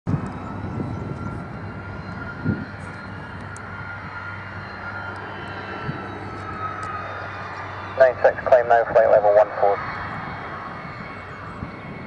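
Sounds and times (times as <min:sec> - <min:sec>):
jet engines whining: 0:00.1 - 0:12.0.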